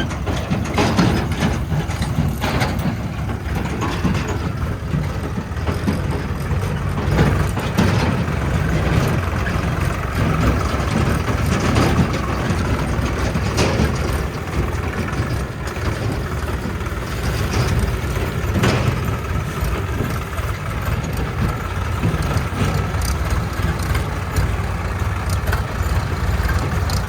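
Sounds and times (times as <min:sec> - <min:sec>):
diesel engine running: 0:00.0 - 0:27.0
sharp engine knocks: 0:00.0 - 0:27.0.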